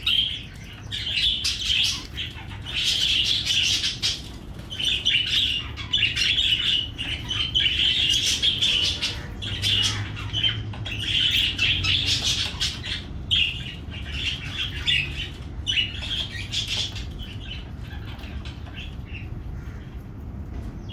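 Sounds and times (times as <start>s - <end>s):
budgies chattering and chirping: 0.0s - 20.9s.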